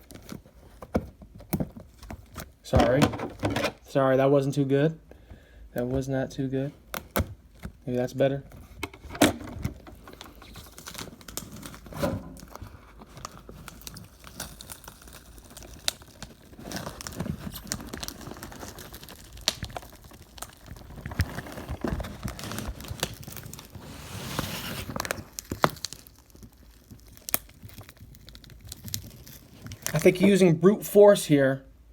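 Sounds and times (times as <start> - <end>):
packaging crinkling and tearing: 0.0 - 3.8, 6.8 - 30.3.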